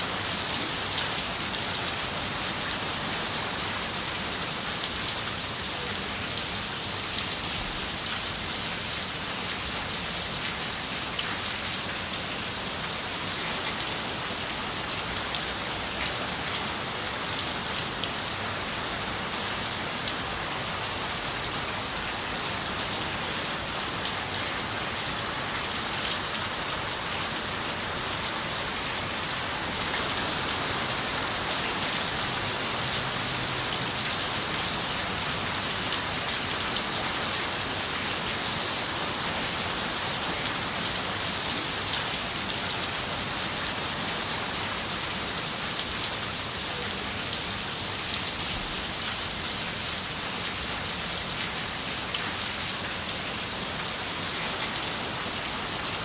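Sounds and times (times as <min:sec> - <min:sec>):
rain falling on a window: 0:00.1 - 0:56.0.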